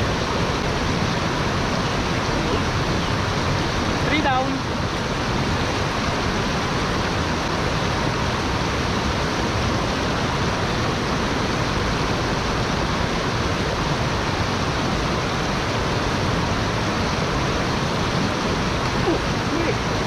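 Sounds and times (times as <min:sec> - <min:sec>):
stream rushing over rapids: 0:00.0 - 0:20.0.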